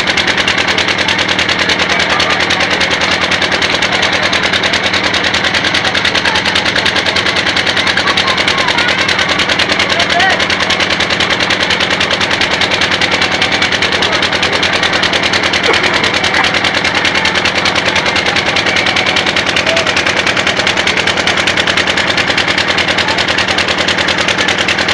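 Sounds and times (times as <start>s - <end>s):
motorboat engine chugging: 0.0s - 24.9s.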